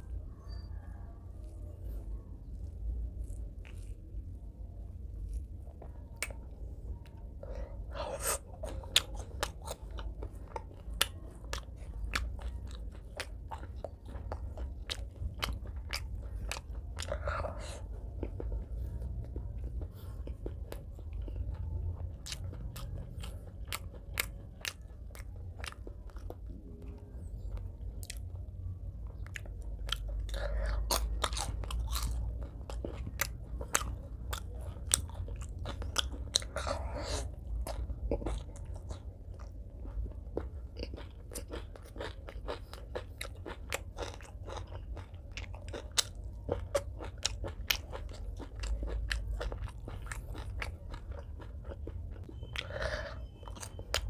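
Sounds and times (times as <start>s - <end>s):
chewing with crunches: 0.0s - 54.0s.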